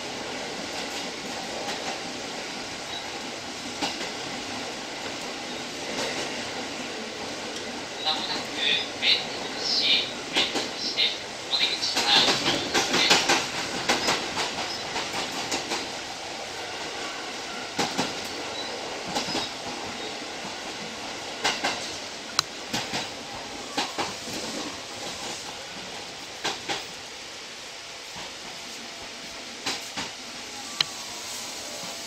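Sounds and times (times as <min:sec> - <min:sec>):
train wheels clicking over rails: 0:00.0 - 0:07.8, 0:09.3 - 0:17.0, 0:17.7 - 0:27.2, 0:28.0 - 0:31.0
train running sound: 0:00.0 - 0:32.0.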